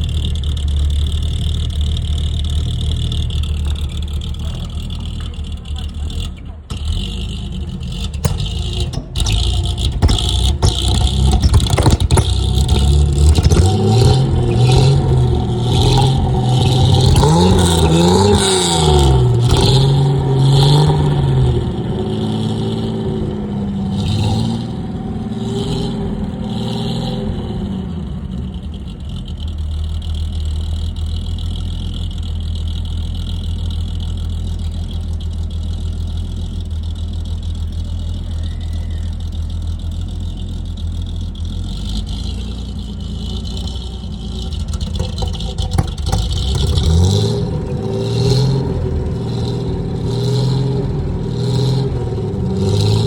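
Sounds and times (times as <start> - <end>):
car engine revving and idling: 0.0 - 53.0.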